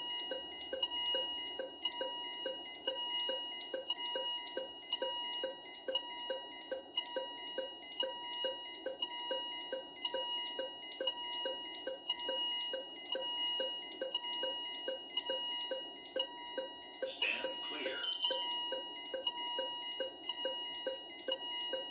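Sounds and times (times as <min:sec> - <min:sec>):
pulsing high alarm tones: 0:00.0 - 0:21.9.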